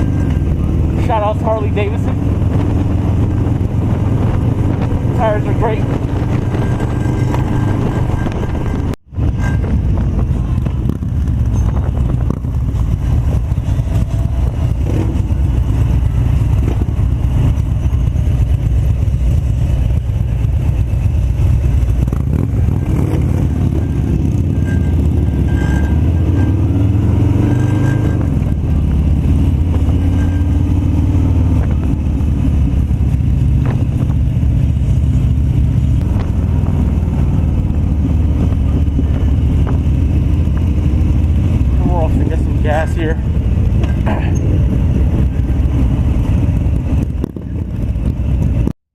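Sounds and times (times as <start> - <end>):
motorcycle engine running: 0.0 - 48.8.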